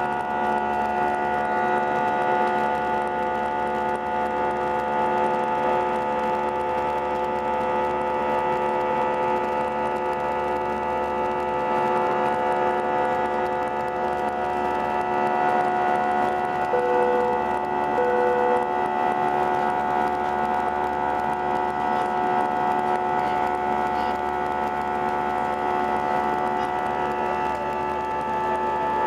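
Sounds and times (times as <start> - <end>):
jet engine cabin drone: 0.0 - 29.0.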